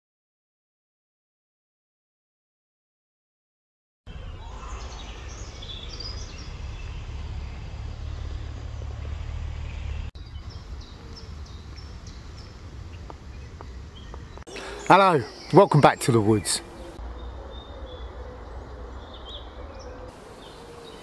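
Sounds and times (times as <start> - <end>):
small birds chirping: 4.1 - 21.0.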